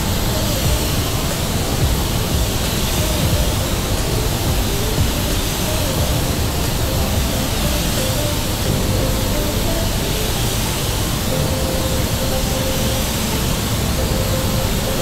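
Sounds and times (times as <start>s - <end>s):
faint music: 0.0s - 15.0s
rush of air in paint booth: 0.0s - 15.0s
spray gun hissing: 0.0s - 15.0s.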